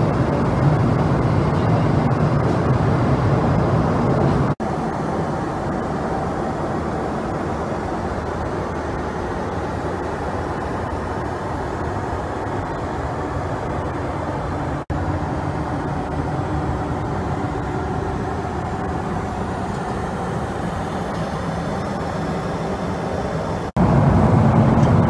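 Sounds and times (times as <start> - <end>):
airliner cabin engine rush: 0.0 - 25.0.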